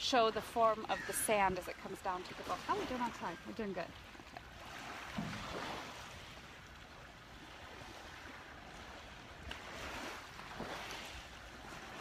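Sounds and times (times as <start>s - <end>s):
waves washing on a beach: 0.0s - 12.0s.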